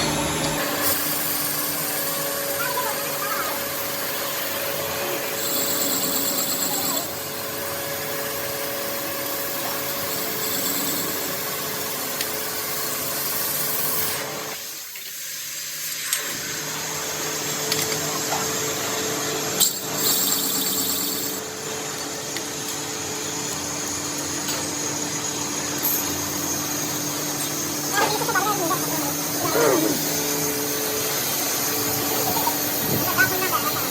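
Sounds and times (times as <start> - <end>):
workshop machinery running: 0.0 - 33.9.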